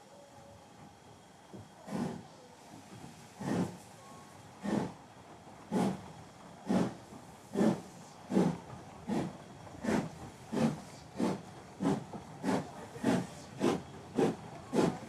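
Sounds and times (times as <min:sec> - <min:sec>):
soft steady steam hiss: 0:00.0 - 0:15.0
steam locomotive exhaust chuffs: 0:01.5 - 0:15.0.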